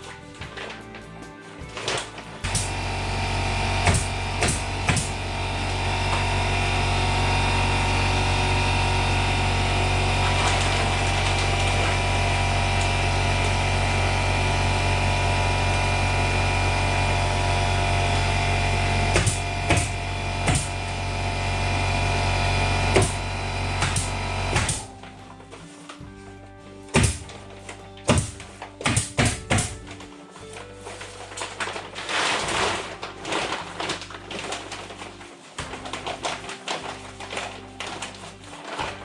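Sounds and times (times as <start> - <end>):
machine hum with low drone: 0.0 - 39.0.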